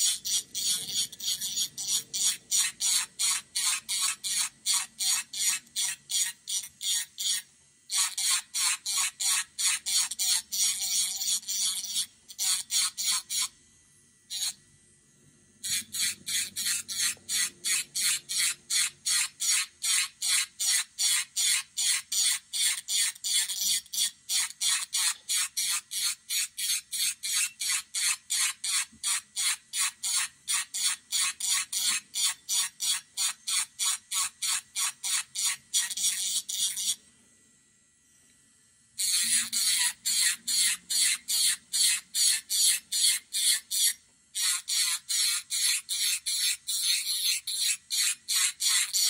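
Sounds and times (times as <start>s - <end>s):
nail file rasping: 0.0s - 13.5s, 14.3s - 14.6s, 15.6s - 37.0s, 39.0s - 49.0s.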